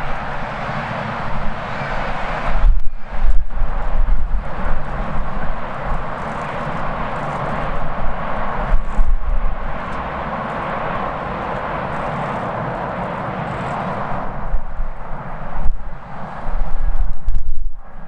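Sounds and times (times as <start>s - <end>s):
jet engines running: 0.0s - 17.1s
wind buffeting microphone: 0.0s - 18.0s.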